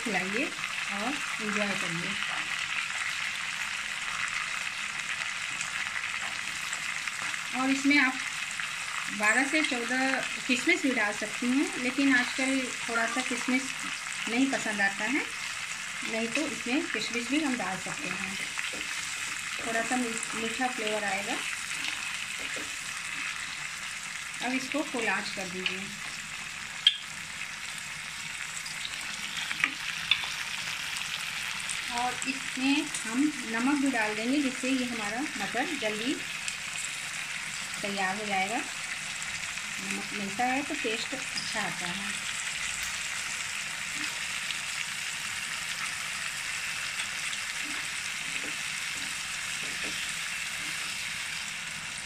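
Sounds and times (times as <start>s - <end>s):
spices sizzling in hot oil: 0.0s - 52.0s.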